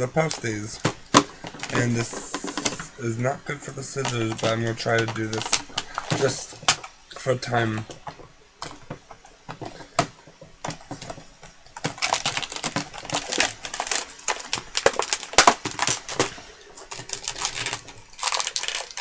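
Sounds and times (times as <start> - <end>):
plastic packaging crackling: 0.0 - 19.0.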